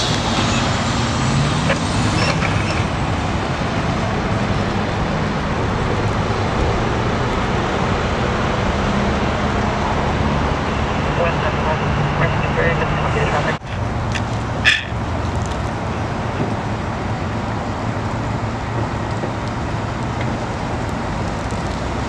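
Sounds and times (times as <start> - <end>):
diesel engine running: 0.0 - 22.0
road noise: 0.0 - 22.0.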